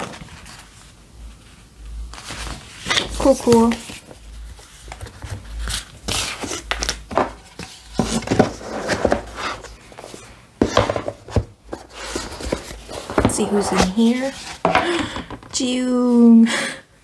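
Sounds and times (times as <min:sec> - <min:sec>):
cardboard and paper rustling: 0:00.0 - 0:01.5, 0:02.1 - 0:15.2.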